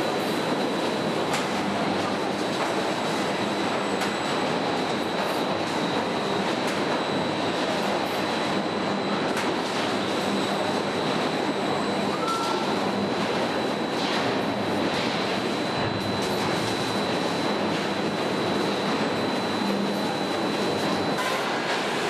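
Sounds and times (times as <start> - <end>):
welding shop industrial din: 0.0 - 22.0.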